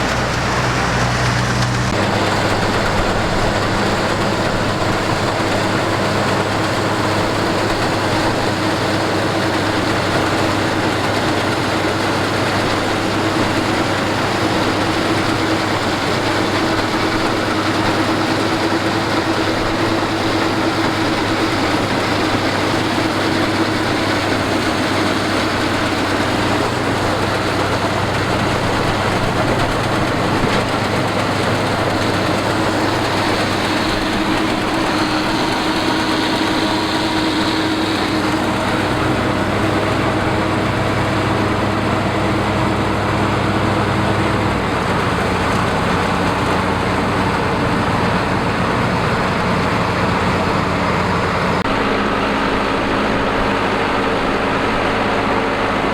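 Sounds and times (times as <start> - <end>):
harvesting machine engine running: 0.0 - 55.9.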